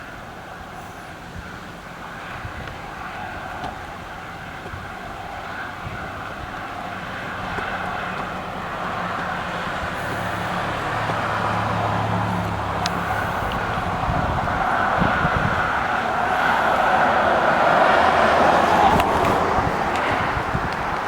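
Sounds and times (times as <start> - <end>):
passing vehicle engine hum: 0.0 - 21.0
rushing outdoor noise: 0.0 - 21.0.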